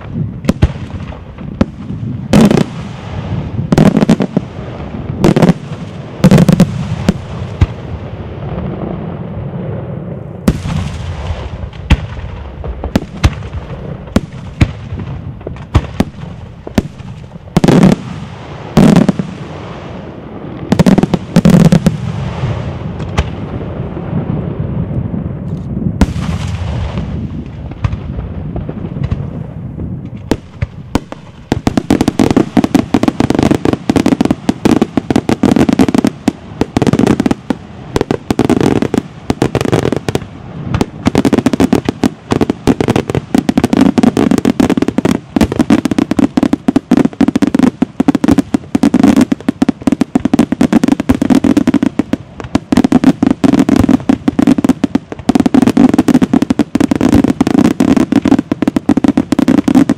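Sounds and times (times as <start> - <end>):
fireworks bangs and crackles: 0.0 - 59.9
fireworks rumble: 0.0 - 59.9.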